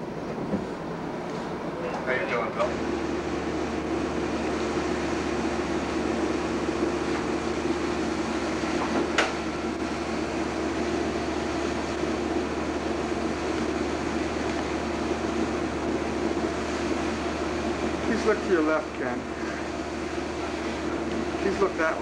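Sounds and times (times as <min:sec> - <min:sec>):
mechanical hum and hiss: 0:00.0 - 0:22.0.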